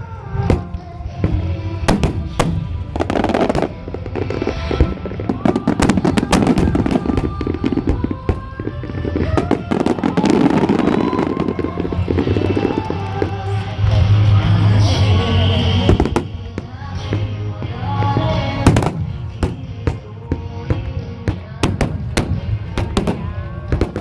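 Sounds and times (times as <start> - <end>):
fireworks bursting and crackling: 0.0 - 24.0
music: 0.0 - 24.0.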